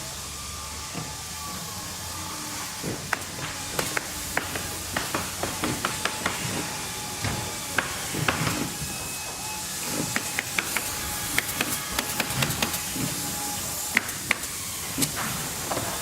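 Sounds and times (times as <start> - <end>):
machine hiss and hum: 0.0 - 16.0.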